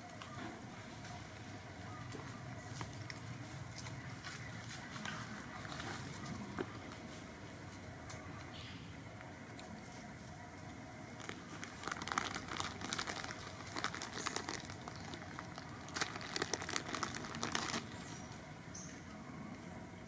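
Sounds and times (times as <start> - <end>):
dry leaves crackling underfoot: 0.0 - 8.6, 9.4 - 18.5.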